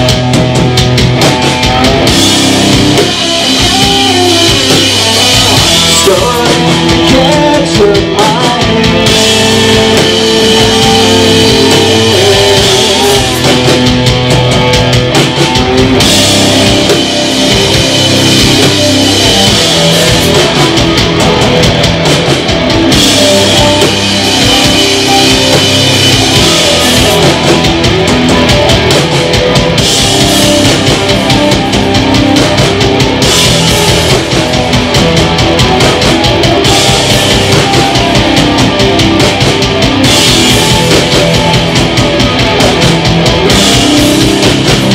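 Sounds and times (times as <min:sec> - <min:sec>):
rock band playing loudly: 0:00.0 - 0:44.9.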